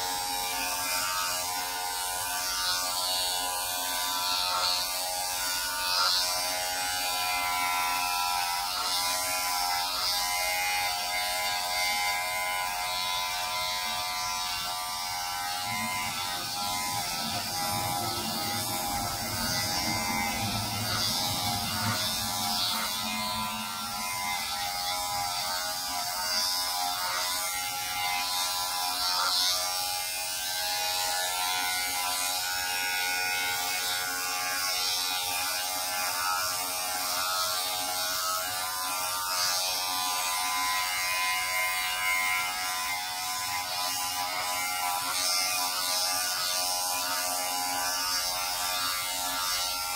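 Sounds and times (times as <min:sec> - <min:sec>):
electric hair clippers buzzing: 0:00.0 - 0:49.9.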